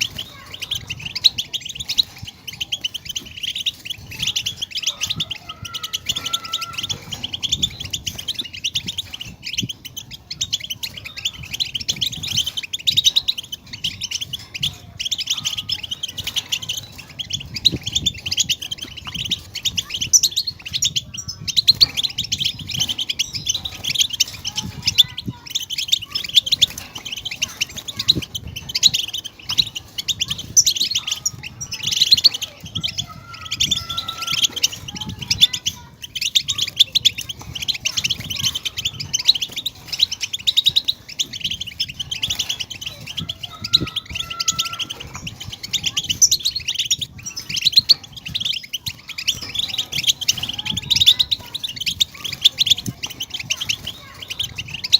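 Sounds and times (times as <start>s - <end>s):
finch twittering song: 0.0s - 54.9s.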